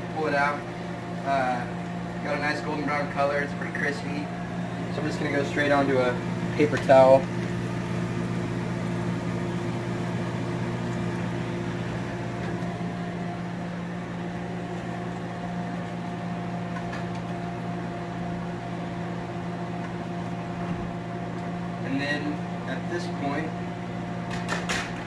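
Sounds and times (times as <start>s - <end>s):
electric fan motor hum: 0.0s - 25.0s.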